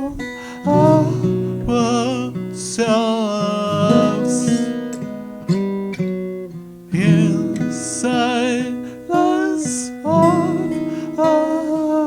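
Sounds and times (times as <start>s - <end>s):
person singing long wavering notes: 0.0s - 4.6s, 7.0s - 12.0s
acoustic guitar chords: 0.0s - 12.0s.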